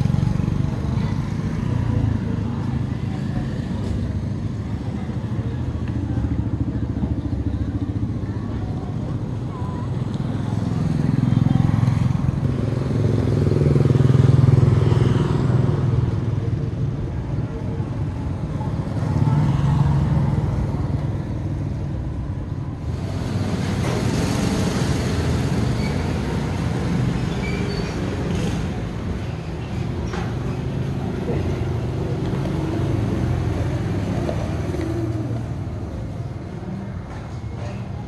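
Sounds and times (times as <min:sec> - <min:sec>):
motorbike passing: 0:00.0 - 0:38.0
road traffic passing: 0:00.0 - 0:38.0.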